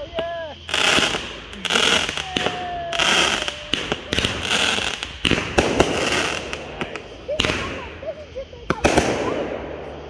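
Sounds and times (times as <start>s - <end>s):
fireworks shots hissing and popping: 0.0s - 10.0s.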